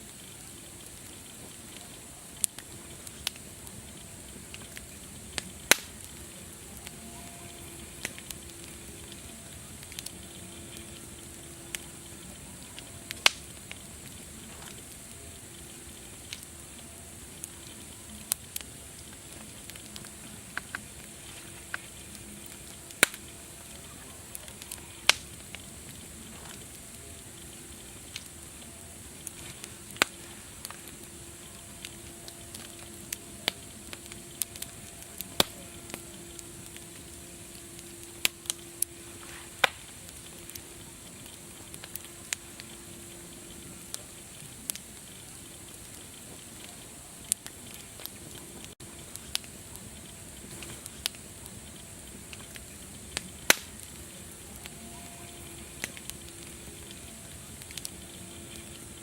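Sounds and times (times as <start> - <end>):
steady hiss: 0.0 - 59.0
wood fire crackling: 0.0 - 59.0.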